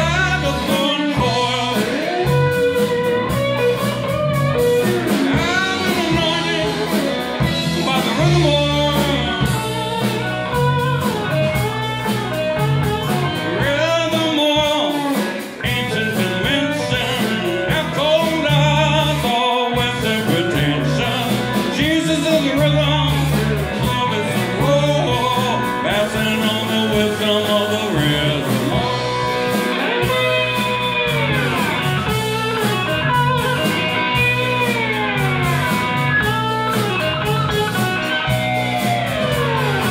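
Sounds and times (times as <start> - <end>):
blues-funk band playing: 0.0 - 39.9
slide guitar: 0.0 - 39.9.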